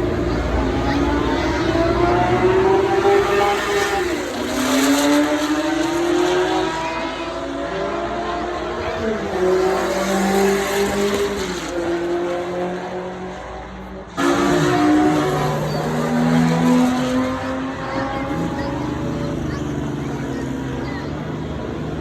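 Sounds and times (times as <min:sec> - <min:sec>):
car engine revving through gears: 0:00.0 - 0:22.0.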